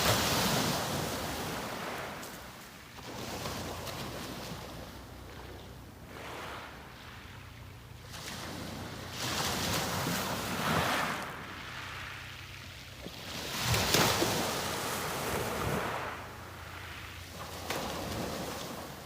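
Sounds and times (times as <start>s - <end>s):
sea waves breaking on beach: 0.0s - 19.0s.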